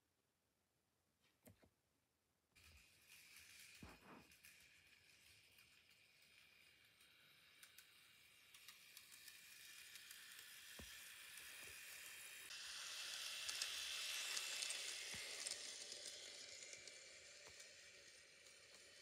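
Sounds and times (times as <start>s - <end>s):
model train whirring on track: 2.6s - 19.0s.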